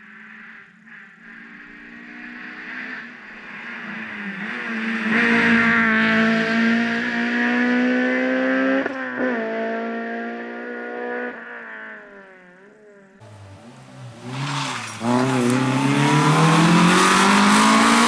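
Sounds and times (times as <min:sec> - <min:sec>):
rally car engine at full throttle: 0:00.0 - 0:18.0.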